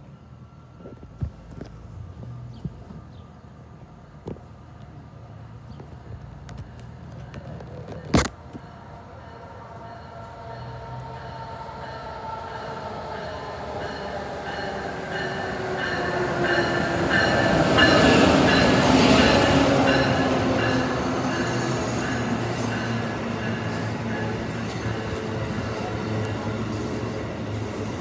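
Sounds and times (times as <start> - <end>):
electric train approaching: 1.7 - 28.0.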